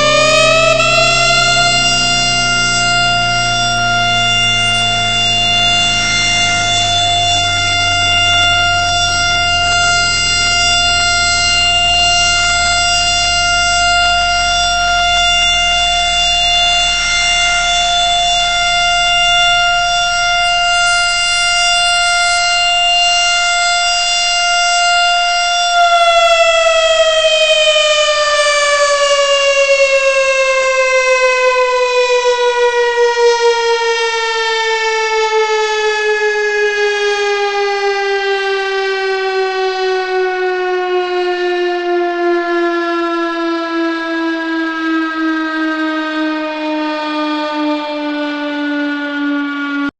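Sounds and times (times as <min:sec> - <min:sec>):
warning siren steady tone: 0:00.0 - 0:49.9.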